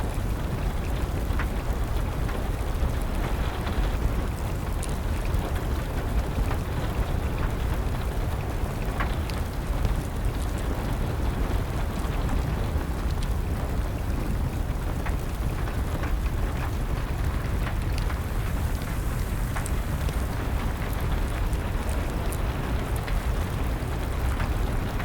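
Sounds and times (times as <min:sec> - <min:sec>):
rain rushing: 0:00.0 - 0:25.0
wood fire crackling and popping: 0:00.0 - 0:25.0.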